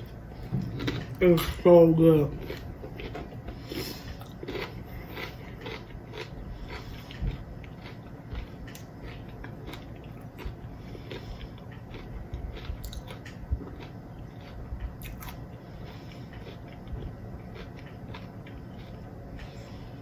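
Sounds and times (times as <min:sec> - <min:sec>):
person chewing crunchy snack: 0:00.0 - 0:20.0.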